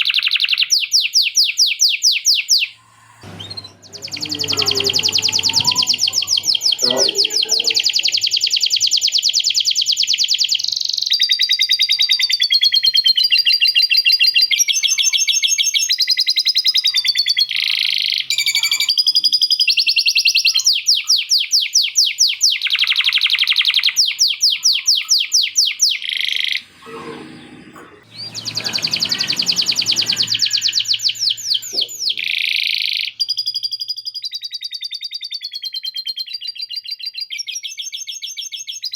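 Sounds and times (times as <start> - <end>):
canary singing trills: 0.0 - 26.7, 28.0 - 38.9.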